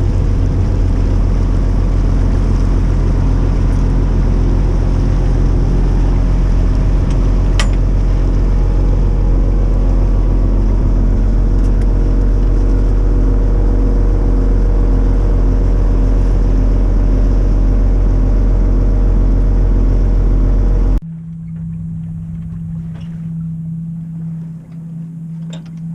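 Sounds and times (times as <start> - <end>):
boat engine droning: 0.0 - 25.9.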